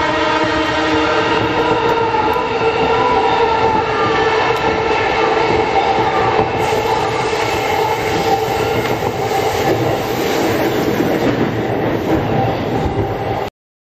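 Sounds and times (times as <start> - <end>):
train wheels rumbling on rail: 0.0 - 13.5.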